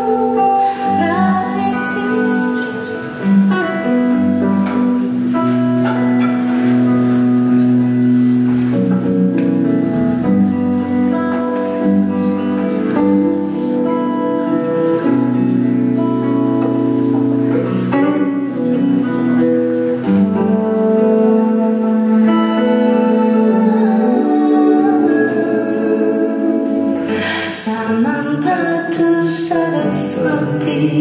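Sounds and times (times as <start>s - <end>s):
acoustic guitar melody: 0.0s - 31.0s.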